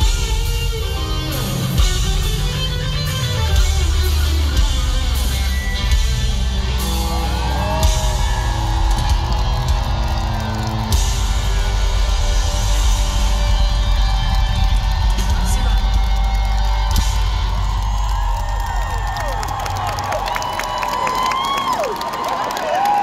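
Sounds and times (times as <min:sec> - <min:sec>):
heavy bass line: 0:00.0 - 0:19.2
electric guitars: 0:00.0 - 0:21.9
drums: 0:00.0 - 0:23.0.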